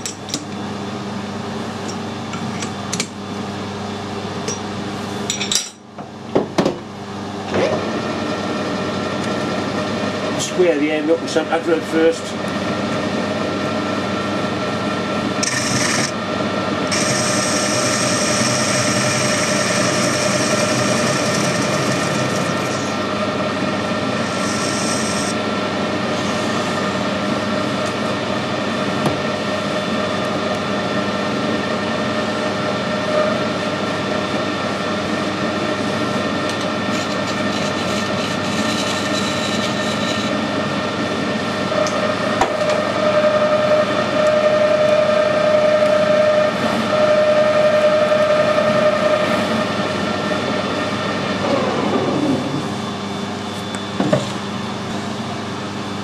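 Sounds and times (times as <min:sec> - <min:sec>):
metal lathe gearing whine: 0:07.0 - 0:56.0.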